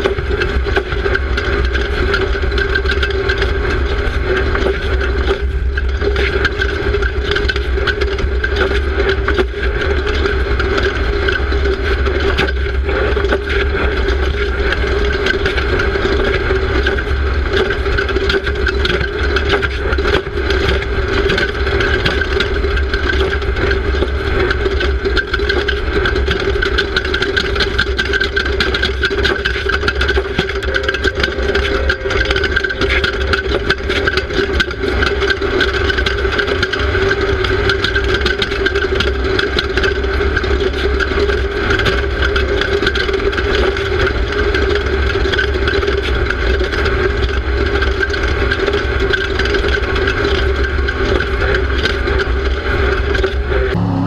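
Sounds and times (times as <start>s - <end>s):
race car engine running hard: 0.0s - 54.0s
rattles and knocks: 0.0s - 54.0s.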